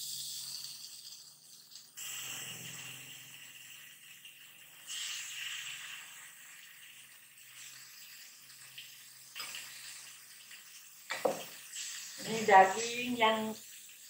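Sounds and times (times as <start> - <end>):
meat sizzling in a wok: 0.0 - 14.0.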